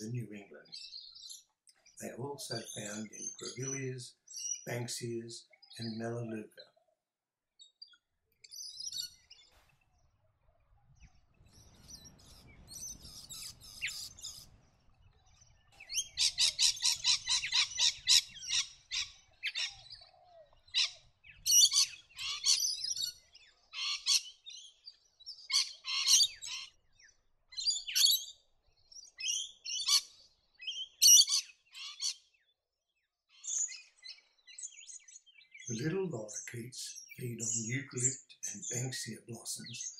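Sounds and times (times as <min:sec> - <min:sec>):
lorikeets screeching and chattering: 0:00.0 - 0:06.6, 0:08.4 - 0:09.6, 0:11.5 - 0:32.3, 0:33.3 - 0:39.9.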